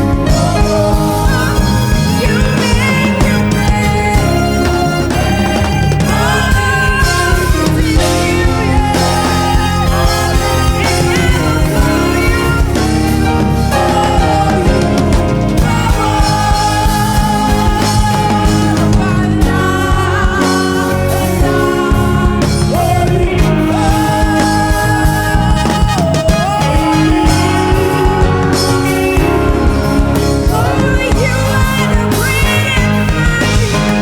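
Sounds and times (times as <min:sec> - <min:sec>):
bass: 0:00.0 - 0:34.0
choir singing: 0:00.0 - 0:34.0
drum beat: 0:00.0 - 0:34.0.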